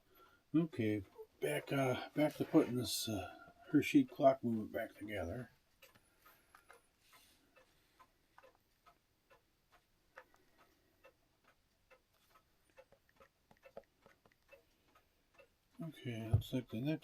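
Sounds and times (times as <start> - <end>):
mechanical clocks ticking: 0.0 - 17.0.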